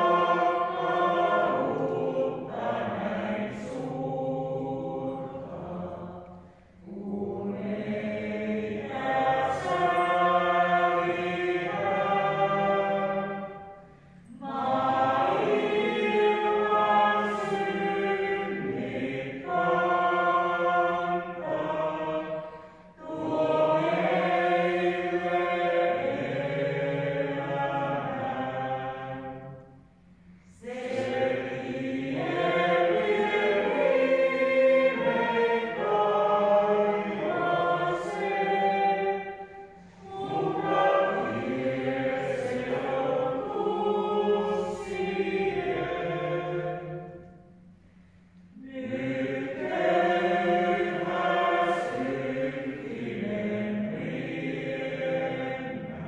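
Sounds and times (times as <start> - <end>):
church hymn singing: 0.0 - 56.0.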